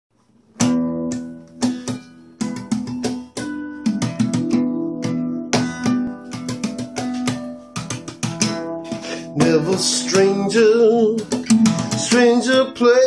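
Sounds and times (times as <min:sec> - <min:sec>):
acoustic guitar strumming: 0:00.5 - 0:13.0.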